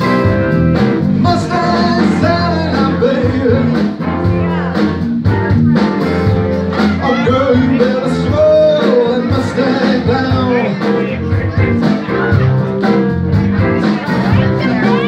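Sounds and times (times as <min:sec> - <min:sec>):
electric guitar: 0:00.0 - 0:15.0
live band playing r and b: 0:00.0 - 0:15.0
singer singing: 0:01.0 - 0:05.1, 0:06.6 - 0:15.0.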